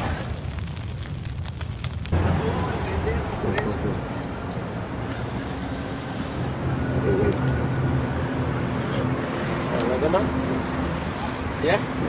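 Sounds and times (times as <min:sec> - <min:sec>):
street traffic rumble: 0:00.0 - 0:12.0
vehicle engine humming: 0:00.0 - 0:12.0.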